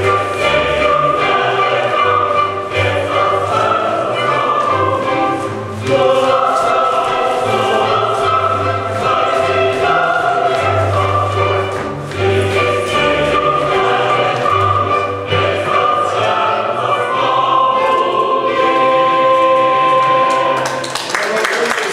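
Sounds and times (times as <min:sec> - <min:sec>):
group singing folk song: 0:00.0 - 0:20.9.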